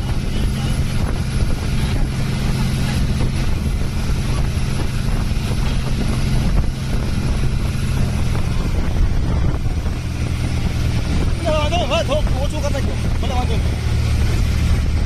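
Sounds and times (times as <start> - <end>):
motorboat engine running: 0.0 - 15.0
wind noise on microphone: 0.0 - 15.0.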